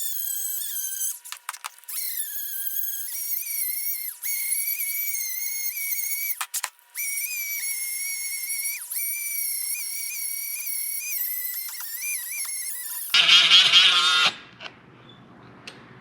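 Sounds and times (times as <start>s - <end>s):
rotary tool whining: 0.0s - 14.7s.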